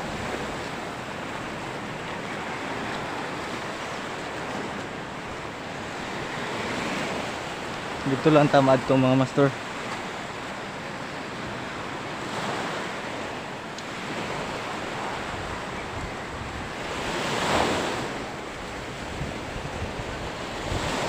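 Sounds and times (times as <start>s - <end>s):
wind buffeting microphone: 0.0s - 8.6s, 9.6s - 21.0s
sea surf washing up beach: 0.0s - 21.0s.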